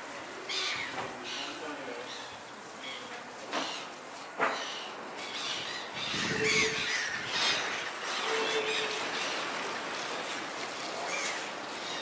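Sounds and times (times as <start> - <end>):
steady background noise: 0.0 - 12.0
gulls calling: 0.4 - 12.0.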